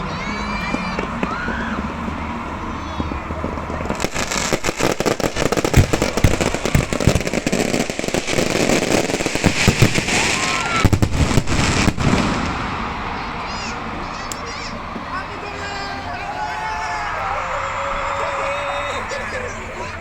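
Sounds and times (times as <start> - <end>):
fireworks crackling and banging: 0.0 - 20.0.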